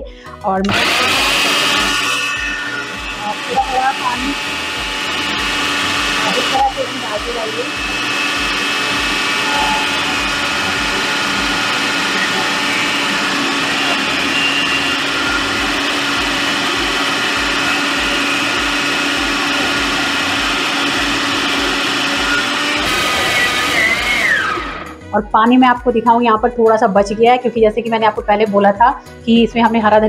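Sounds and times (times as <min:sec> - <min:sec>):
food processor motor whining: 0:00.6 - 0:25.1.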